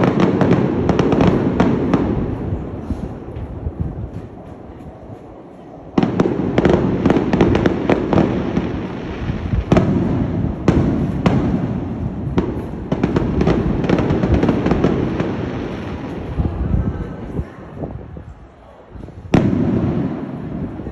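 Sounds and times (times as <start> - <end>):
fireworks bangs and crackles: 0.0 - 18.2, 18.9 - 20.9
fireworks booms: 0.0 - 18.2, 19.0 - 20.9.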